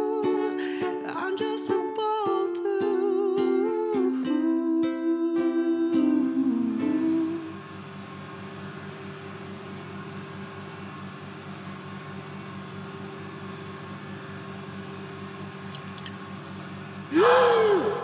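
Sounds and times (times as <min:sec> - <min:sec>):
electrical hum of machinery: 0:00.0 - 0:18.0.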